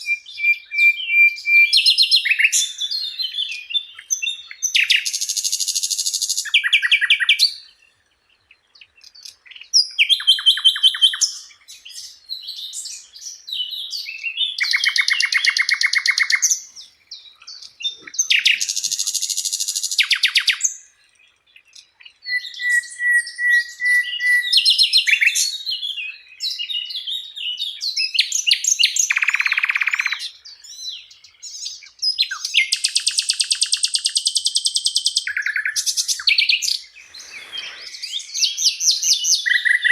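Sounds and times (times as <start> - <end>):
songbird trills and chattering: 0.0 - 39.9.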